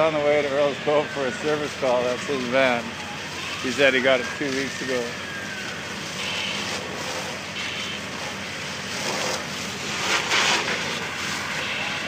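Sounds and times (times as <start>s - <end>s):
engine hum: 0.0s - 12.0s
fire hose rushing: 0.0s - 12.0s.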